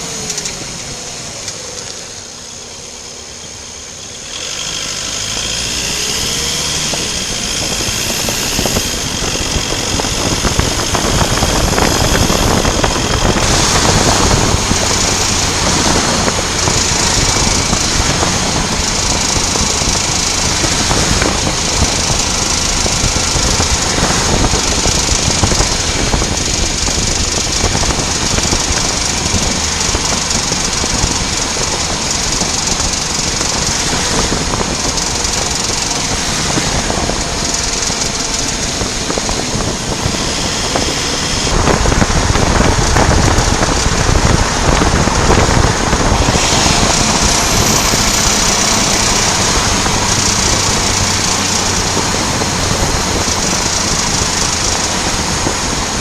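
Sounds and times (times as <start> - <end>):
car engine: 0.0 - 56.0
road noise: 0.0 - 56.0
rapid driveline ticking: 5.4 - 56.0.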